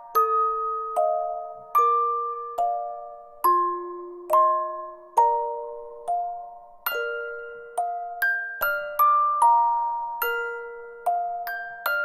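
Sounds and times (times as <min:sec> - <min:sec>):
bell-like chime melody: 0:00.0 - 0:12.0.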